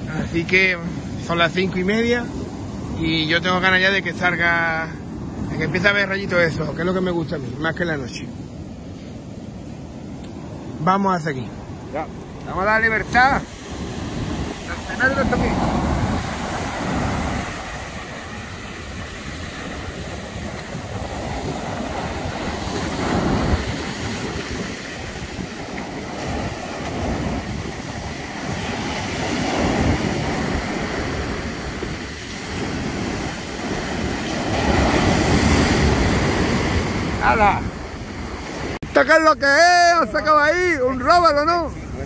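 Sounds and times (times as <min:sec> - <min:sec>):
surf washing on beach: 0:00.0 - 0:42.0
wind buffeting microphone: 0:00.0 - 0:42.0.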